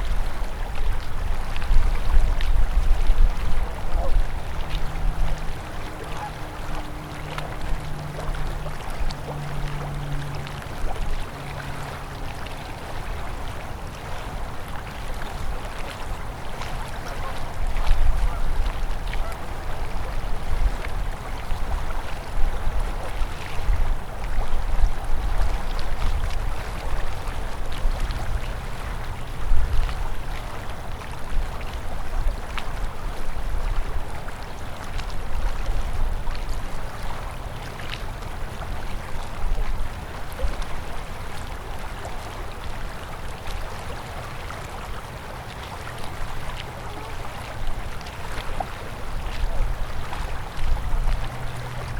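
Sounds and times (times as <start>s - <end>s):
low uneven rumble: 0.0s - 51.9s
river water flowing: 0.0s - 51.9s
small water splashes: 0.0s - 51.9s.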